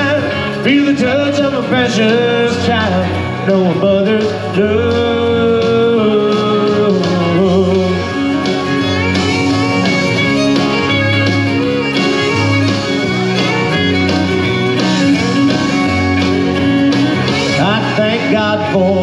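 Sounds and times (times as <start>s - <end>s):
country band with guitar and fiddle: 0.0s - 19.0s.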